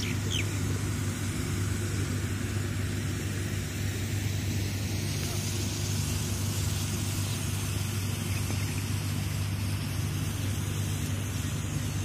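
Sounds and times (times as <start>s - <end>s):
low rumble with hiss: 0.0s - 12.0s.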